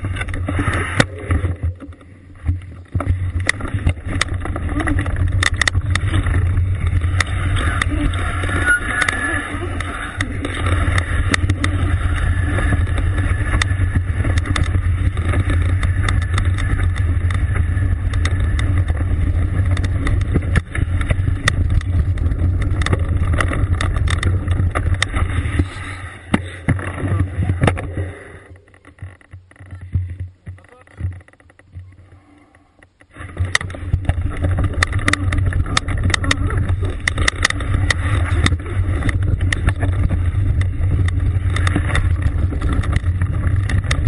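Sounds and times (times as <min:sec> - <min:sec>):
bike and stones clicking and rattling: 0:00.0 - 0:32.2, 0:32.8 - 0:44.0
bike tyre noise on gravel: 0:00.0 - 0:44.0.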